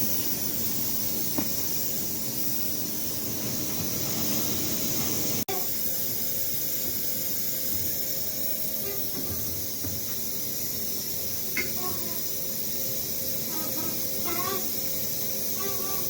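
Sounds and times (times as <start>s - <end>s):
industrial plant hiss: 0.0s - 16.0s.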